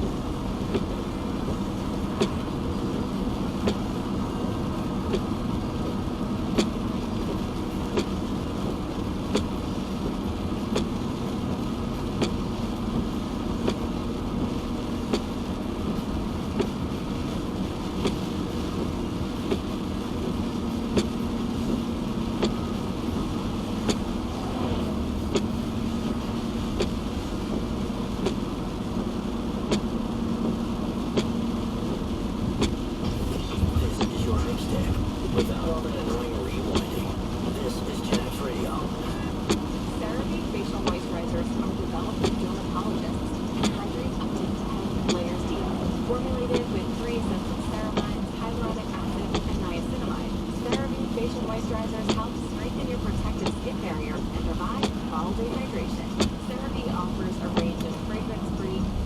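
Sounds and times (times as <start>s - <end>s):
tyre and engine rumble: 0.0s - 59.0s
windshield wipers ticking: 0.0s - 59.0s.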